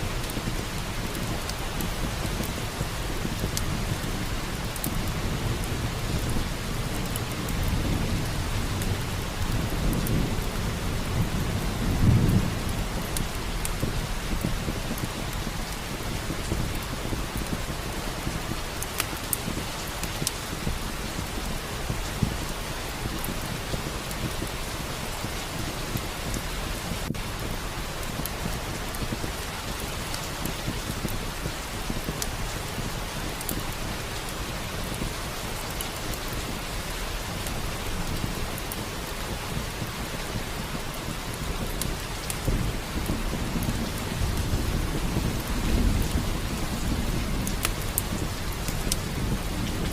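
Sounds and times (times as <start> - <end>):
steady rain: 0.0 - 49.9
rolling thunder: 0.2 - 18.8, 19.4 - 49.9.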